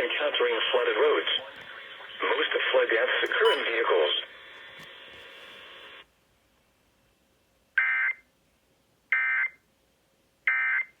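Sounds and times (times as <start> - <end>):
broadcast background hiss: 0.0 - 10.5.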